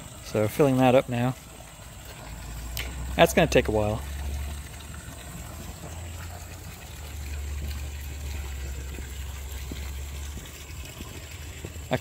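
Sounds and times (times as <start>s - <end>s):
water pouring from hose into pool: 0.0s - 12.0s.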